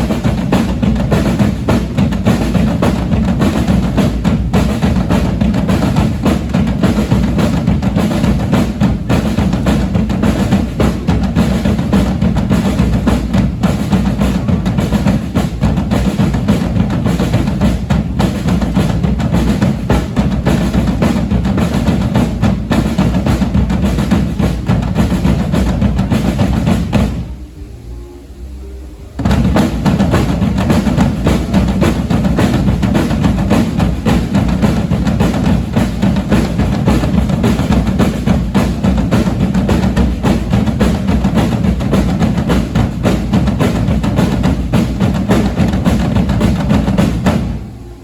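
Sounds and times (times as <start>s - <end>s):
percussion band drumming: 0.0s - 27.6s, 29.2s - 48.0s.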